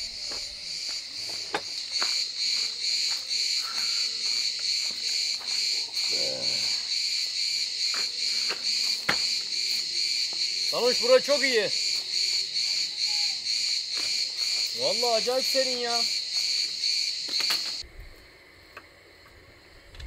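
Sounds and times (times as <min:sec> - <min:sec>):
insect chorus pulsing: 0:00.0 - 0:20.0.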